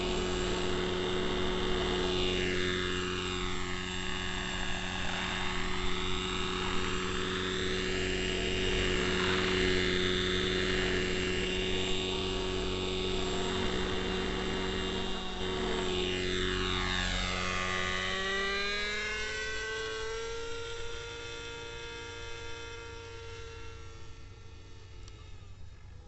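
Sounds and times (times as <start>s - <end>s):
model helicopter engine and rotors: 0.0s - 26.0s.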